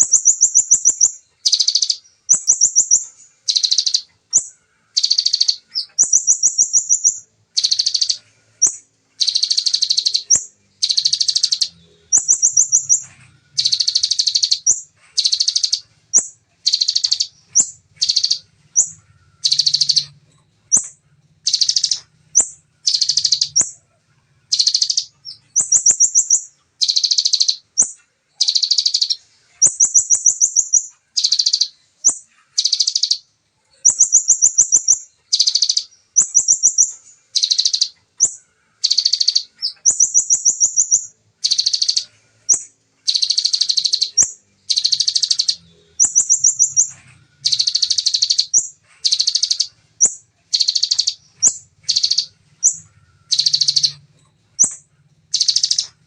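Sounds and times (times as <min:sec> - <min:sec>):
bird singing in fast trills: 0:00.0 - 0:56.0.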